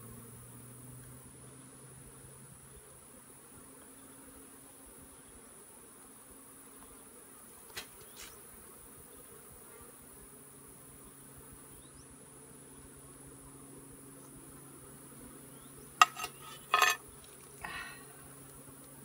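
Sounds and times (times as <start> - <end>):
honeybees humming: 0.0 - 19.0.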